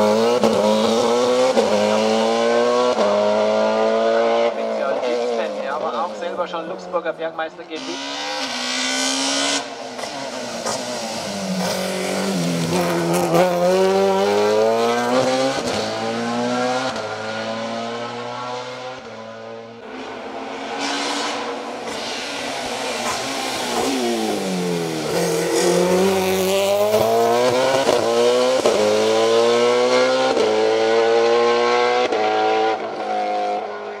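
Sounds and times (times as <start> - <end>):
high-revving racing car engine: 0.0 - 7.0, 7.7 - 34.0.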